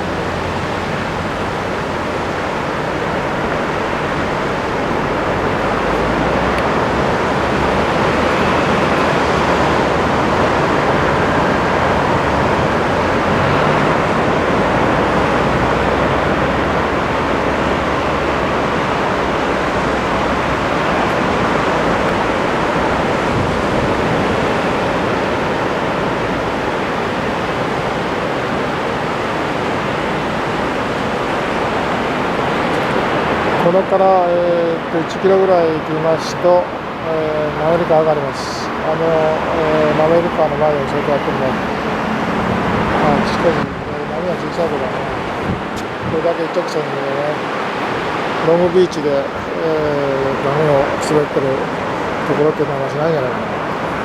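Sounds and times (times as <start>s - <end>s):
surf washing onto beach: 0.0s - 54.0s.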